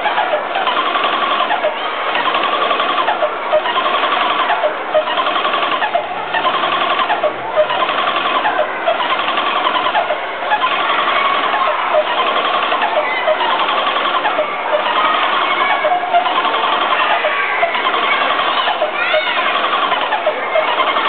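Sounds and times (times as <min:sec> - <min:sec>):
paint sprayer chattering: 0:00.0 - 0:21.0.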